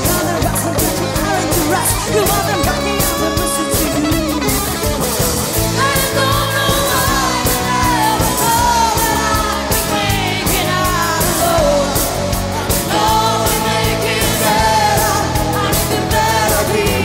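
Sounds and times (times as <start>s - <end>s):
live rock band playing: 0.0s - 17.0s
steady drum beat: 0.0s - 17.0s.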